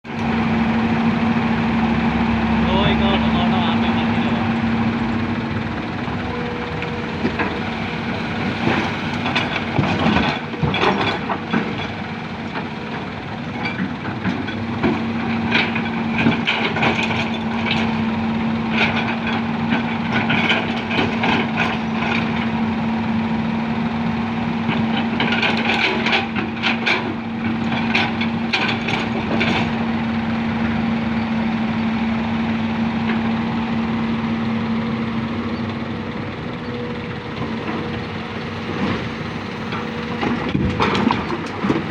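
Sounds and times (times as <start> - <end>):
heavy diesel engine running: 0.0 - 41.9
excavator bucket clattering and scraping: 0.1 - 22.8, 24.6 - 33.7, 36.6 - 41.9.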